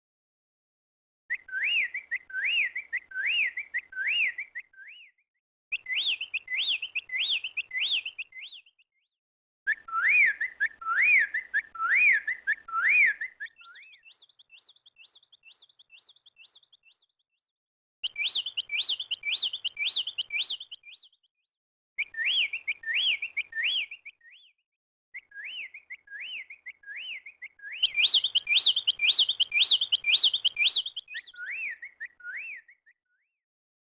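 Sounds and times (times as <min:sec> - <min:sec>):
songbird whistling phrases: 0:01.3 - 0:17.4, 0:18.0 - 0:21.4, 0:22.0 - 0:33.4.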